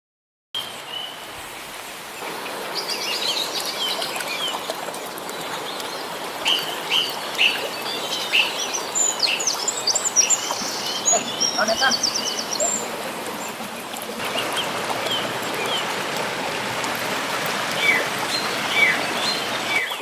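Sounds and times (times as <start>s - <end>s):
birds chirping: 0.6s - 20.0s.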